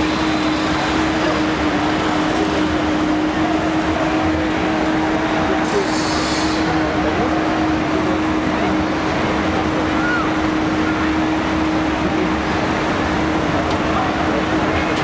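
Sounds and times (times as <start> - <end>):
crowd chatter: 0.0 - 15.0
traffic: 0.0 - 15.0.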